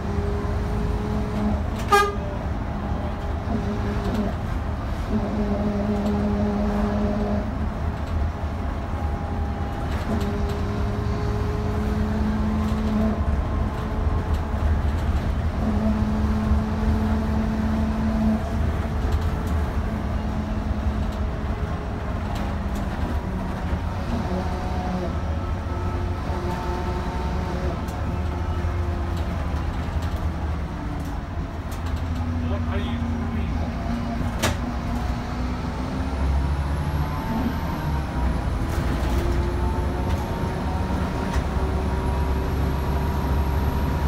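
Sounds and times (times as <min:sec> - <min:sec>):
bus engine and road drone: 0:00.0 - 0:44.0.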